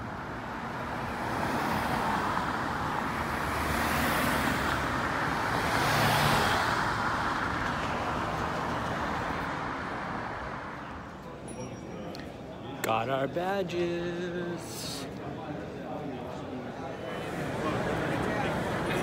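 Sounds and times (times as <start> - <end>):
cars driving past: 0.0 - 11.4, 12.8 - 19.0.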